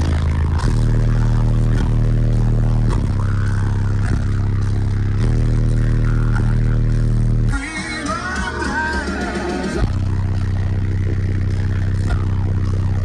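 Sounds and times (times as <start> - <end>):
loud deep bass from subwoofers: 0.0 - 13.0.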